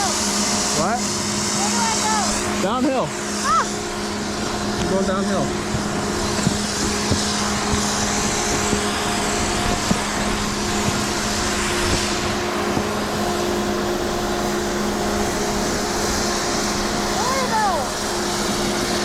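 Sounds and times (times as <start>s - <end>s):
snowboard scraping over snow: 0.0s - 19.0s
wind on microphone: 3.7s - 19.0s.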